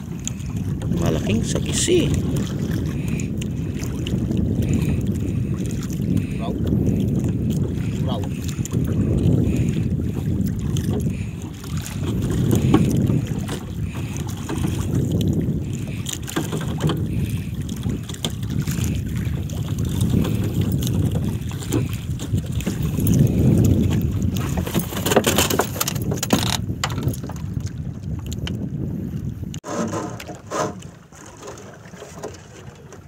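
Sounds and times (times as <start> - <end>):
wind buffeting microphone: 0.0 - 31.0
knocks and clatter in boat: 0.0 - 33.0
water slapping against hull: 0.0 - 33.0.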